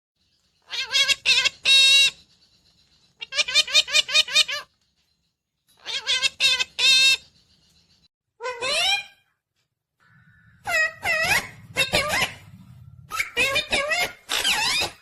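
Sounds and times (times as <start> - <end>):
parakeet calling: 0.4 - 4.8, 5.8 - 9.3, 10.0 - 15.0.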